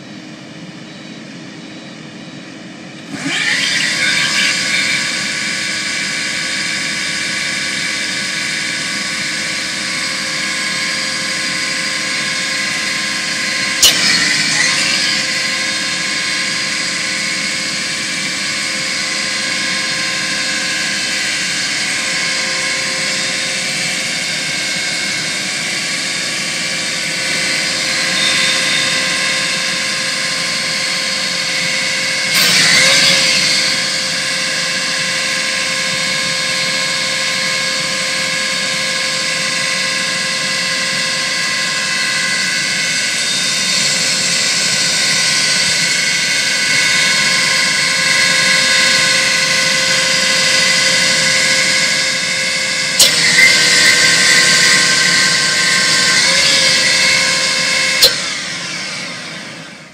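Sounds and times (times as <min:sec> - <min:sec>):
stump grinder wheel whining: 0:03.0 - 0:59.9.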